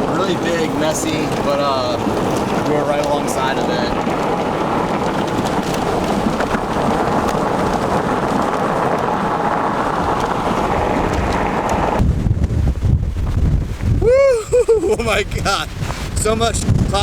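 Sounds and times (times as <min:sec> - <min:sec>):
heavy rain and wind: 0:00.0 - 0:17.0.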